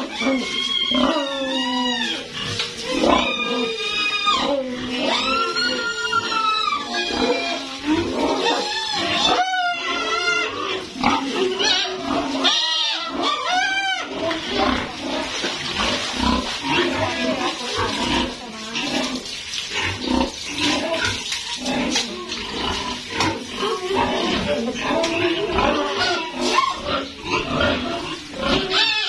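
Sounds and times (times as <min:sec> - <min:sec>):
pigs grunting: 0:00.0 - 0:29.0
pigs squealing: 0:00.0 - 0:29.0.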